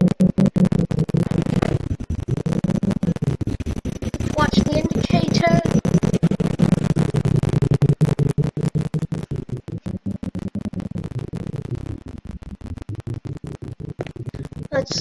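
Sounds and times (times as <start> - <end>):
muffled elevator hum: 0.0 - 15.0.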